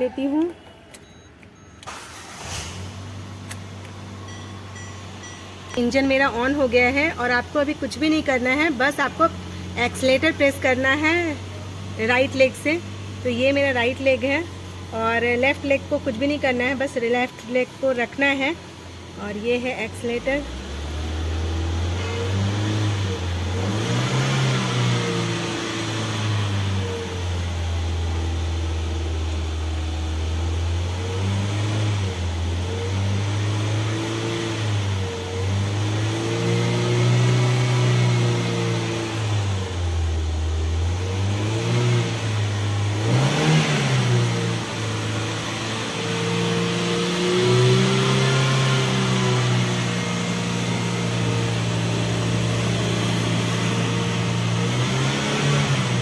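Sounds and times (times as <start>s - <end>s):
car engine revving: 1.8s - 56.0s.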